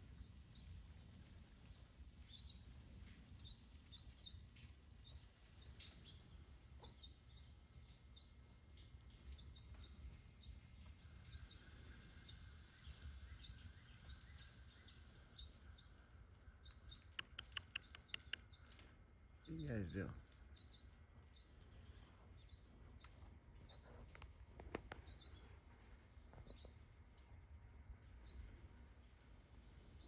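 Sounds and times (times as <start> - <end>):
small bird chirping: 0.2 - 27.3.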